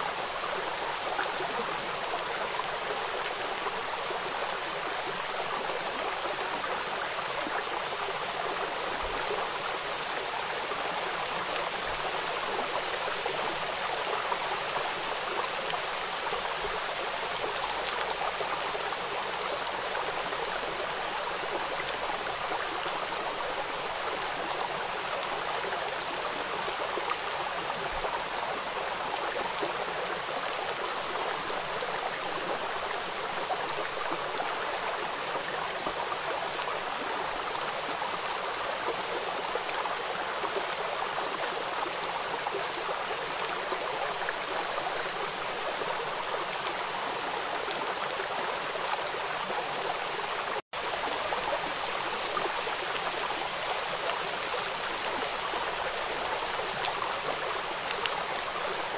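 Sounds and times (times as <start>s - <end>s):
rain on hard surface: 0.0s - 58.9s.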